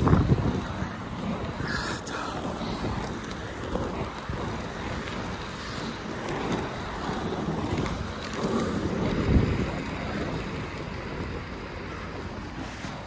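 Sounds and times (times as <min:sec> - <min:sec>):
skate wheels rolling on asphalt: 0:00.0 - 0:13.0
wind buffeting microphone: 0:00.0 - 0:13.0.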